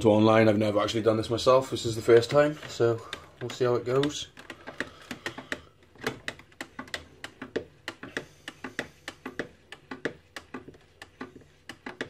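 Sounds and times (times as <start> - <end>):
spatula scraping plastic bucket: 1.6 - 12.0.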